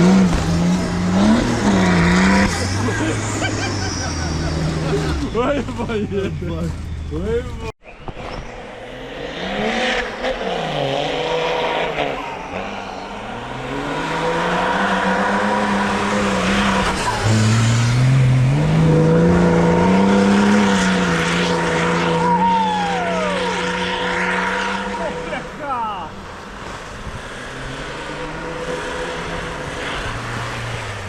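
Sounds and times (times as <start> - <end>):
engine revving: 0.0 - 6.0, 8.5 - 31.0.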